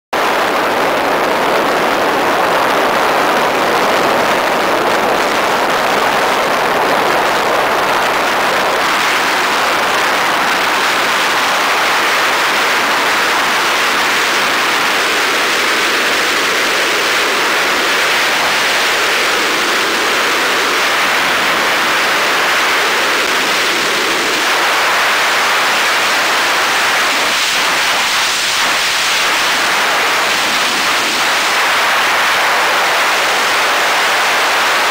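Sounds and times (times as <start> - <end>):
airflow rushing past glider cockpit: 0.2 - 34.9.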